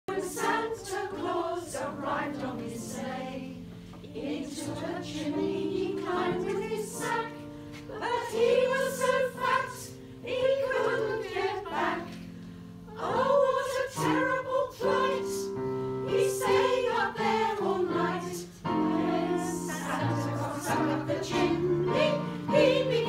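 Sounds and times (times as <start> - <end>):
women's choir singing: 0.1 - 23.0.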